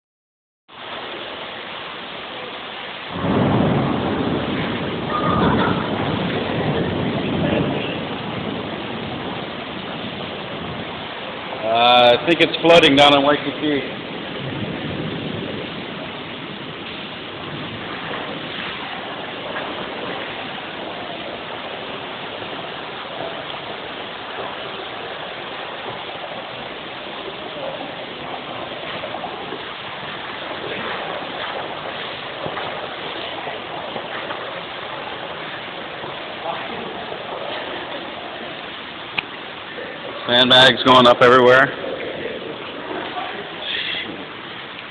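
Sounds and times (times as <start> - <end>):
rainwater rushing and splashing: 0.7 - 44.9.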